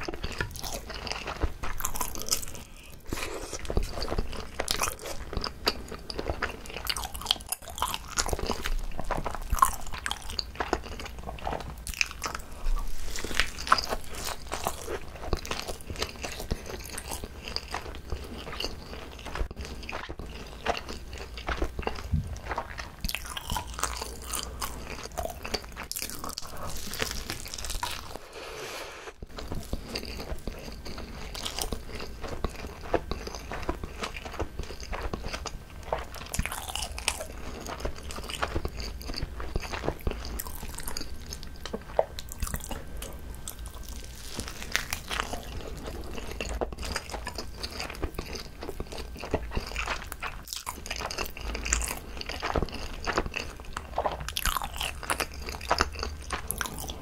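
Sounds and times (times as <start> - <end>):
crunchy chewing with mouth clicks: 0.0 - 57.0.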